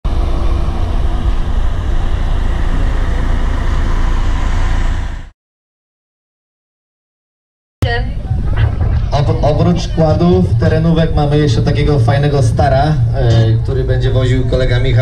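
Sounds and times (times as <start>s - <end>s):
loud bassy rumbling: 0.0s - 5.3s, 7.8s - 15.0s.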